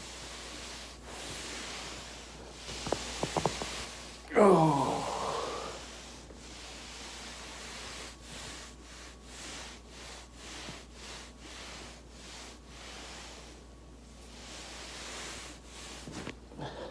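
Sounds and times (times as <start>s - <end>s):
body rolling on foam roller: 0.0s - 13.6s.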